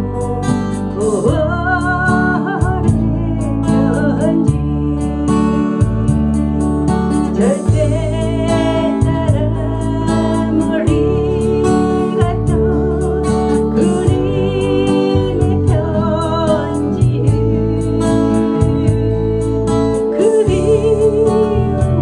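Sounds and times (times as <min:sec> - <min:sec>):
held low bass notes: 0:00.0 - 0:22.0
strummed acoustic guitar: 0:00.0 - 0:22.0
woman singing a slow ballad: 0:00.0 - 0:22.0.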